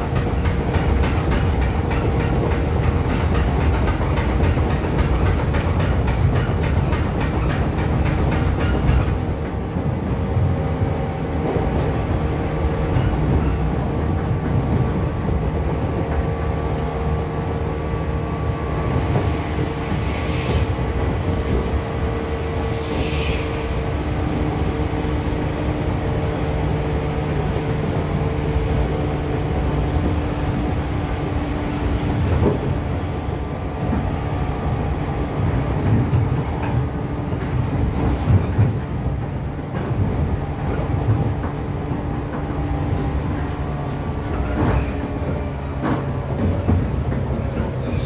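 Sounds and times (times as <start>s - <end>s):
train wheels and motors rumbling: 0.0s - 48.0s
wheels clicking on track: 0.0s - 48.0s.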